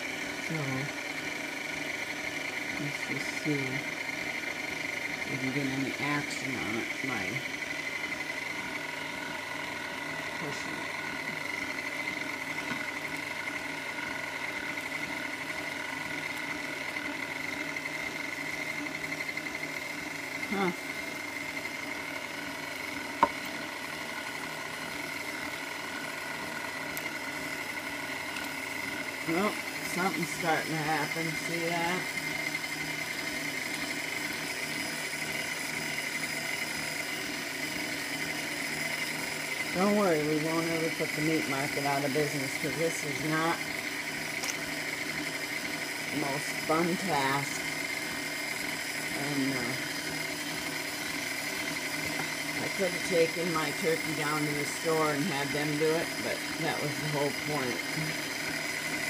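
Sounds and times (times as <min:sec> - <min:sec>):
stand mixer motor whining: 0:00.0 - 0:59.0.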